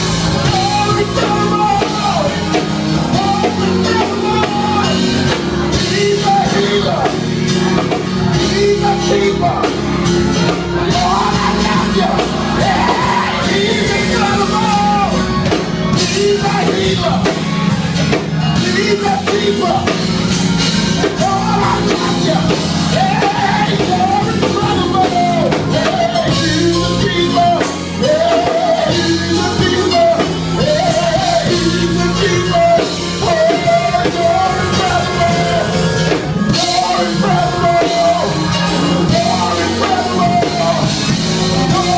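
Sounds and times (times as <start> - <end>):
person singing: 0.0 - 20.1, 21.0 - 41.9
band playing: 0.0 - 41.9.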